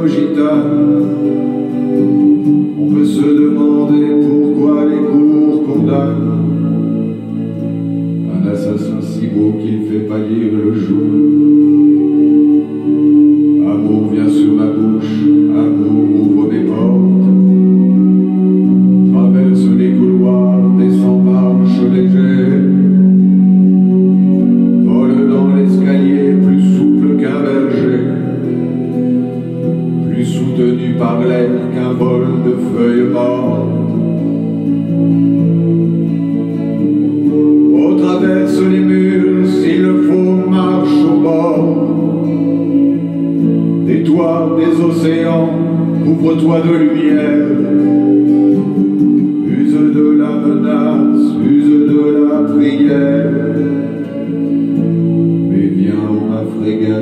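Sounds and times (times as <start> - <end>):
guitar chords: 0.0 - 57.0
man singing slow song: 0.0 - 57.0.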